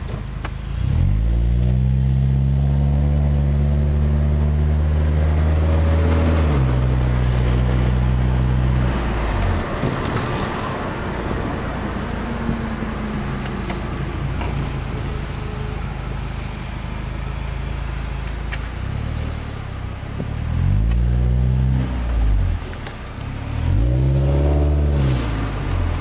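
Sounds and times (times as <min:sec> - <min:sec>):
car engine accelerating: 0:00.0 - 0:26.0
tyre and road noise: 0:00.0 - 0:26.0.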